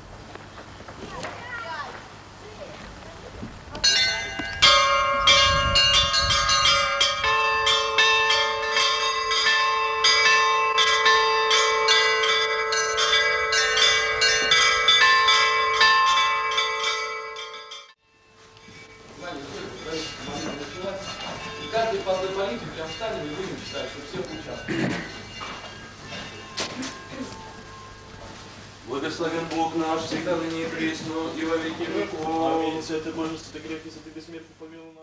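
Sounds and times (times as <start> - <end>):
high church bells ringing: 3.7 - 35.0
deep bell ringing: 3.8 - 33.9.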